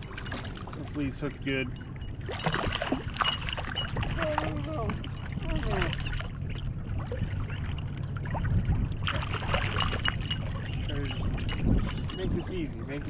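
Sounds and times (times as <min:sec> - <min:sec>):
fish thrashing and splashing water: 0:00.0 - 0:01.1, 0:01.8 - 0:12.2.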